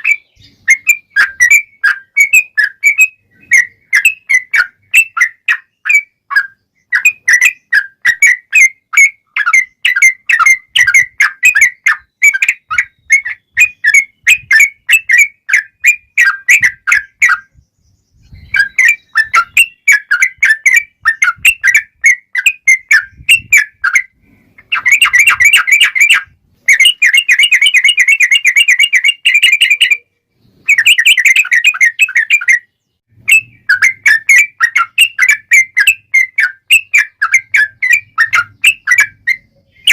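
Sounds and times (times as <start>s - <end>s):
bird song bubbly whistled notes: 0.0s - 39.9s.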